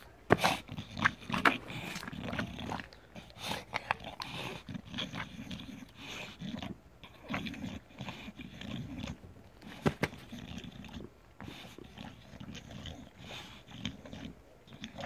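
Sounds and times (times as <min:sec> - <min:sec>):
dog breathing heavily: 0:00.0 - 0:14.4.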